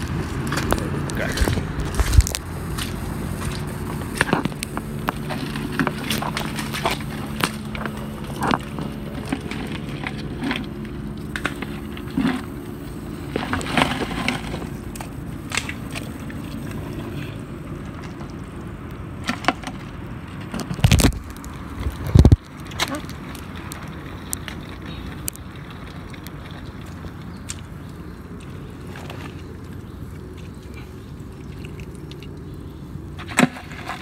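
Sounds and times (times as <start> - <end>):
low hum: 0.0 - 34.0
twigs crackling in mud: 0.0 - 34.0.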